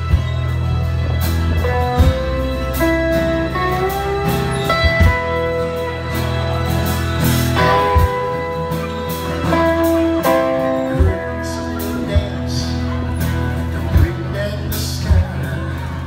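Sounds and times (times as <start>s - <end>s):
live rock band playing: 0.0s - 16.0s
sliding electric guitar lead: 0.0s - 16.0s.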